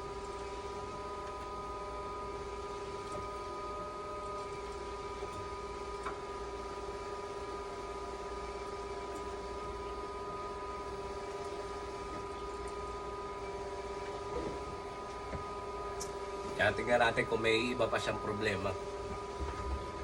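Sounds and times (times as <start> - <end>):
machine hum: 0.0 - 20.0
pump and motor whining: 0.0 - 20.0.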